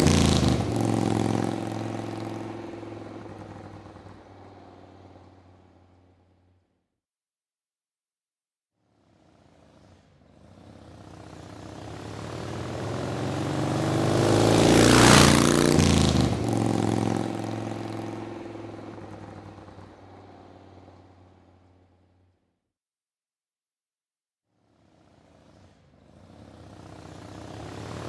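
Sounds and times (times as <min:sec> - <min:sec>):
motorcycle driving past: 0:00.0 - 0:06.5, 0:08.9 - 0:22.3, 0:24.7 - 0:28.0.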